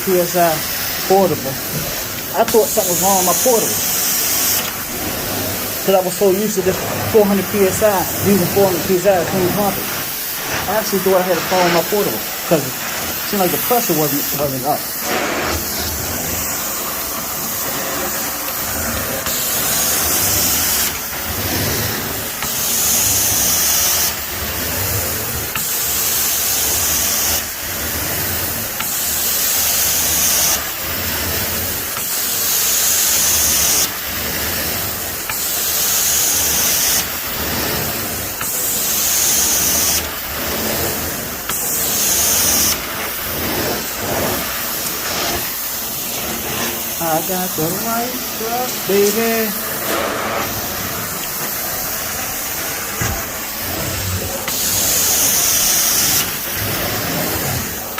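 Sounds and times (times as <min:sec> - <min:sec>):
spray and suction strokes: 0:00.0 - 0:57.9
vacuum hiss: 0:00.0 - 0:57.9.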